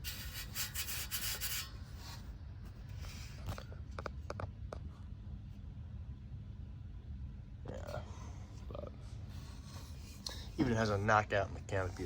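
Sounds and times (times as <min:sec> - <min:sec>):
steady low rumble: 0:01.7 - 0:12.0.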